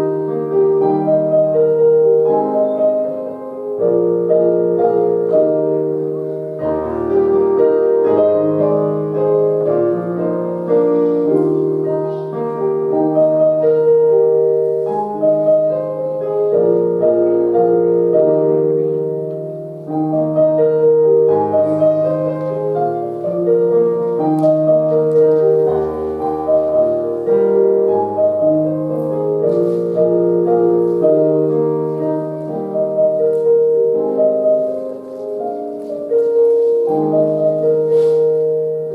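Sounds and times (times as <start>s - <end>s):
slow piano-like keyboard music: 0.0s - 38.9s.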